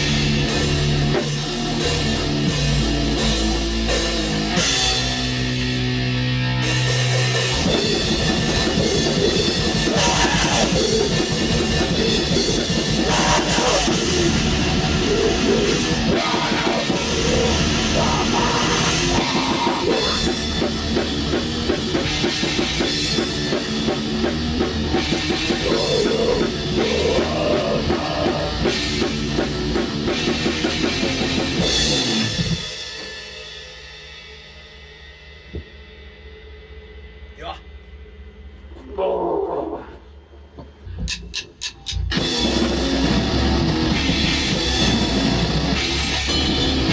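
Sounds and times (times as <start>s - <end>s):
metal band playing: 0.0s - 33.6s, 38.7s - 46.9s
fast drums and cymbals: 0.0s - 38.6s, 41.0s - 46.9s.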